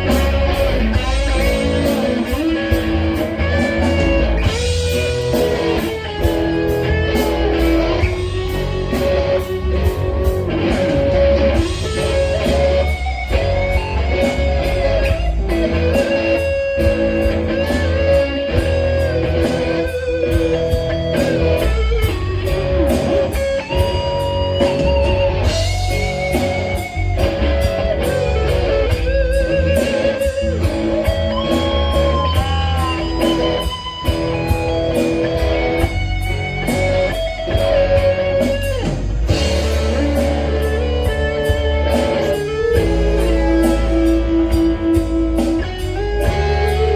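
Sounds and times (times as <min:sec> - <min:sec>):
drums and bass: 0:00.0 - 0:46.9
electric guitar bent notes: 0:00.0 - 0:46.9.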